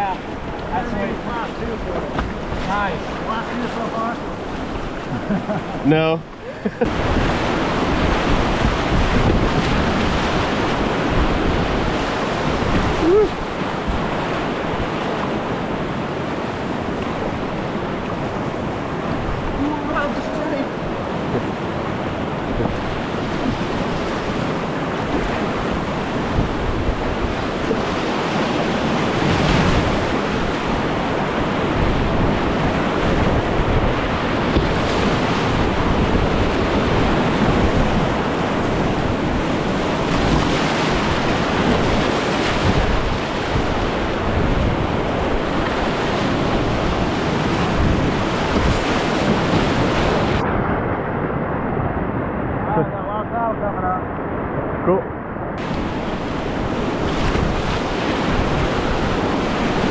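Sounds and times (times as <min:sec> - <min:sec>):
whitewater rapids rushing: 0:00.0 - 0:50.7, 0:55.6 - 0:59.9.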